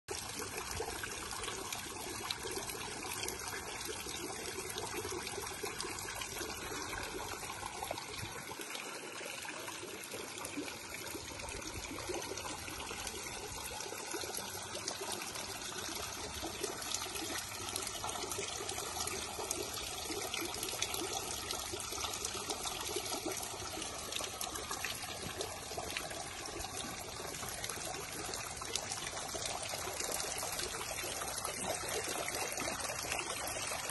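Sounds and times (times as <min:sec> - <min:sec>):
water jets splashing into channel: 0:00.1 - 0:33.9.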